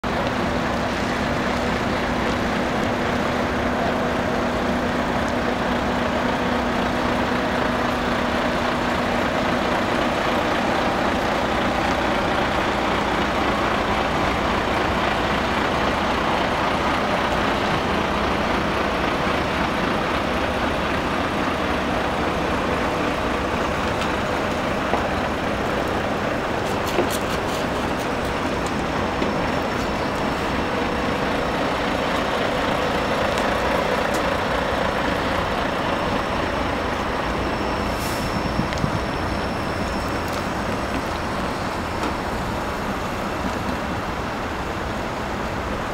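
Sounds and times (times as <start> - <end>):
diesel truck engine running: 0.0 - 45.9
traffic and road noise: 0.0 - 45.9.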